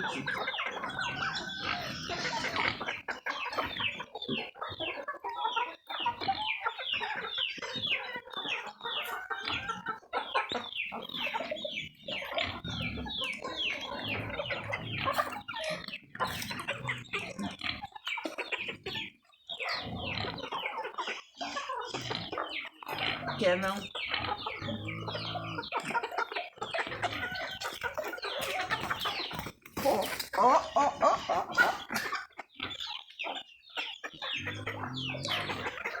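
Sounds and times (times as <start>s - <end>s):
chickens calling: 0.0s - 36.0s.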